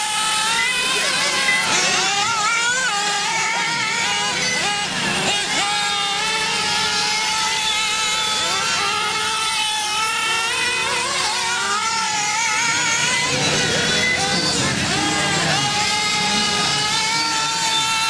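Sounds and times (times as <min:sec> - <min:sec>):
rc car engines whining: 0:00.0 - 0:18.0.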